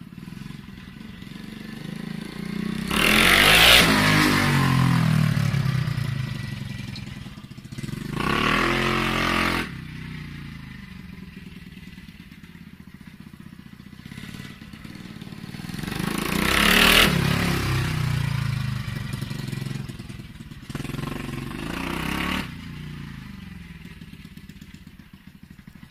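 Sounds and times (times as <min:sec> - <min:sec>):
motorbike engine revving: 0:00.0 - 0:25.9.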